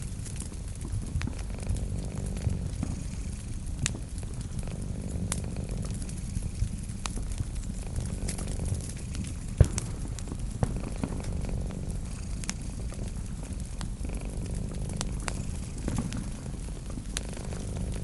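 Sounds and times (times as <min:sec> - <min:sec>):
cat purring: 0:00.0 - 0:18.0
wood fire crackling: 0:00.0 - 0:18.0.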